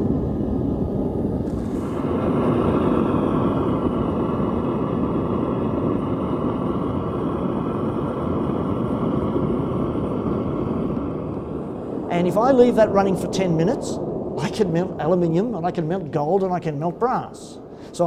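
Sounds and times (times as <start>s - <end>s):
gas blowtorch burner rushing: 0.0s - 18.0s.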